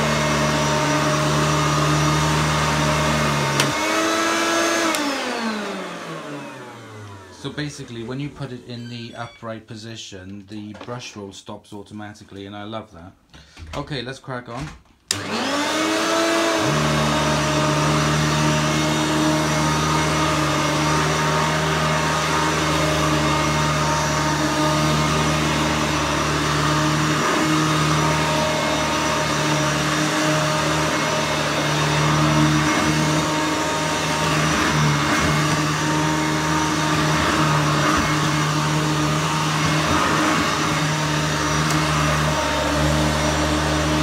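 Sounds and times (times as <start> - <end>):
vacuum cleaner motor whining: 0.0 - 9.4, 15.1 - 44.0.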